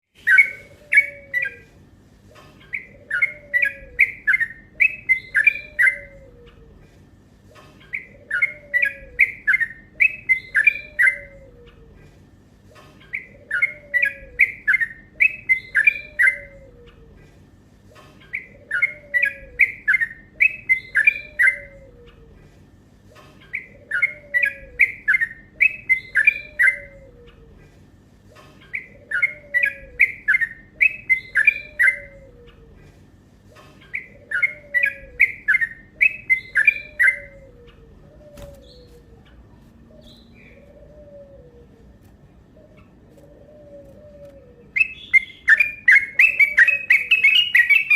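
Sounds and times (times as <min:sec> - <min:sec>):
bulbul singing chattering song: 0:00.1 - 0:01.8, 0:02.4 - 0:06.8, 0:07.4 - 0:12.0, 0:12.7 - 0:17.2, 0:18.0 - 0:22.5, 0:23.2 - 0:27.6, 0:28.4 - 0:32.8, 0:33.5 - 0:47.9.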